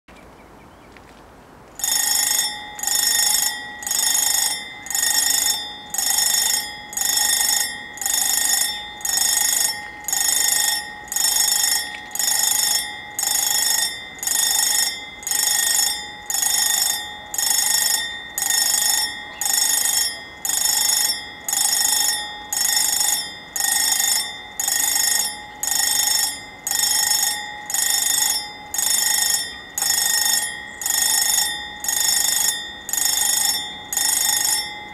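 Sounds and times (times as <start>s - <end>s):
level crossing warning bells: 1.8s - 34.9s.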